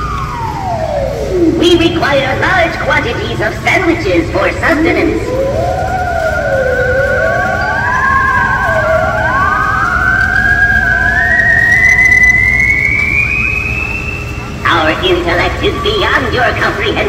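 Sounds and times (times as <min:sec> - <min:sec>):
electronic ufo swooping tone: 0:00.0 - 0:15.9
fast warbling tone: 0:00.0 - 0:17.0.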